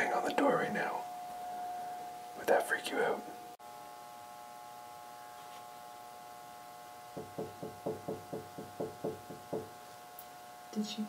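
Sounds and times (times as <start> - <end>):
faint electrical whine: 0.0 - 11.0.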